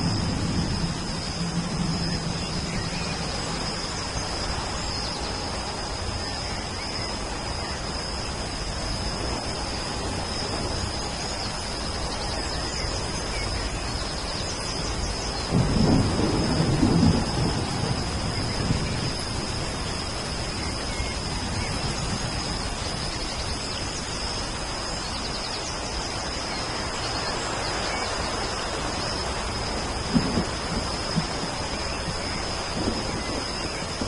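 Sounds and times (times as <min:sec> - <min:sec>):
low rumble of thunder: 0:00.0 - 0:07.9, 0:08.9 - 0:24.0, 0:27.9 - 0:34.0
high-pitched hum: 0:00.0 - 0:34.0
steady rain: 0:00.0 - 0:34.0.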